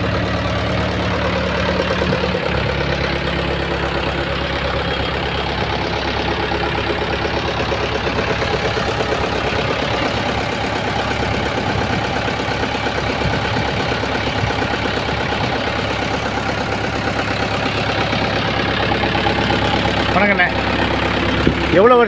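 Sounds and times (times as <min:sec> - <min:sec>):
tractor engine running under load: 0:00.0 - 0:22.0
water pump running: 0:00.0 - 0:22.0.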